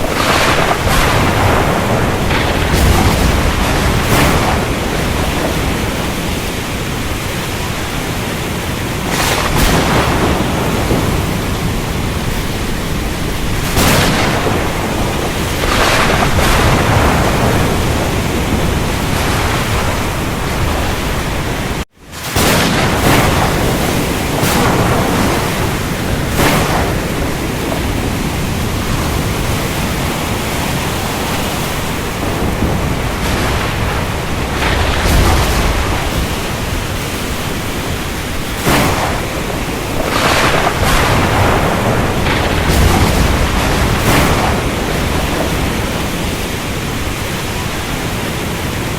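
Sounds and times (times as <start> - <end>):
rain: 0.0 - 48.9
waves breaking: 0.0 - 48.9
wind: 0.0 - 48.9.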